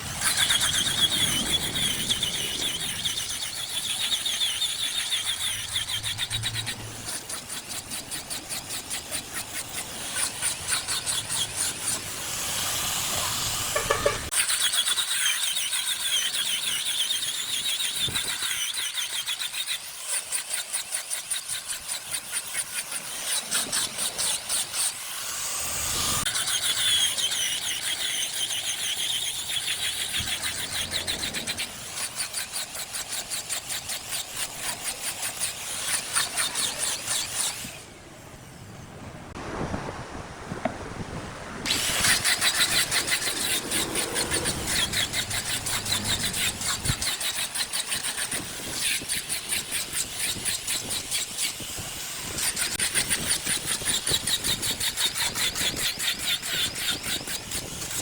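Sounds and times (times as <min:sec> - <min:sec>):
wood lathe tool squealing: 0:00.0 - 0:38.0, 0:41.6 - 0:58.0.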